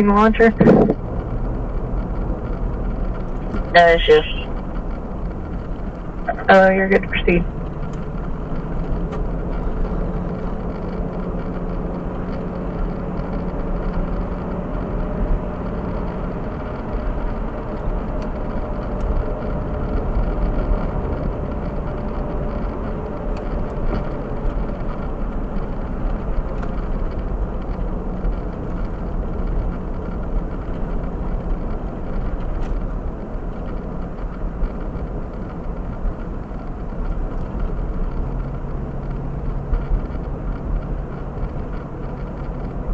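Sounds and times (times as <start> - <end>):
car engine low rumble: 0.0 - 42.9.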